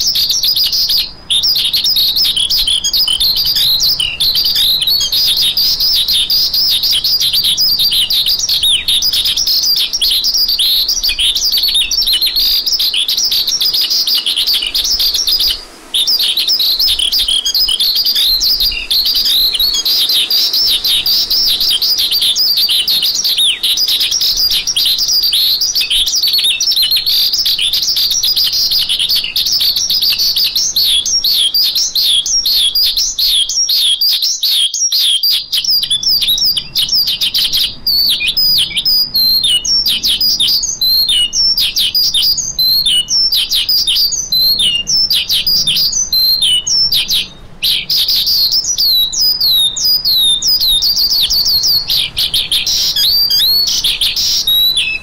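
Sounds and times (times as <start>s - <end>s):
lark singing rapid chirps: 0.0s - 55.0s.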